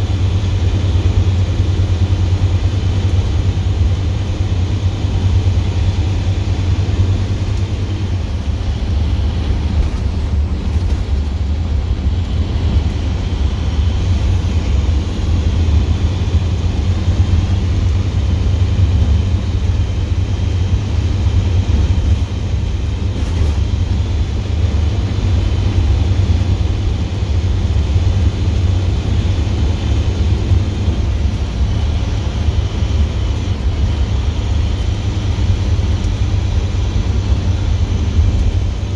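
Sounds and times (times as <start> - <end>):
diesel exhaust rumble: 0.0 - 38.9.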